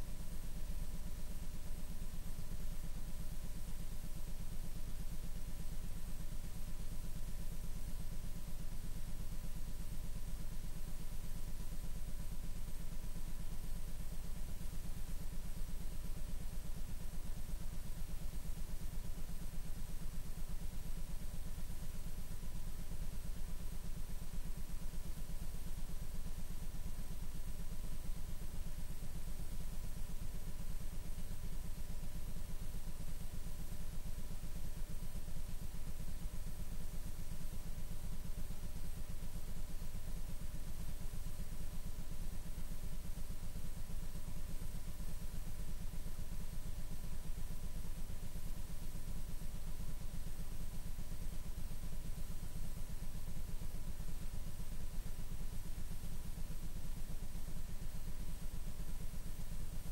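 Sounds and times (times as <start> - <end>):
pulsing electrical hum and buzz: 0.0 - 59.9.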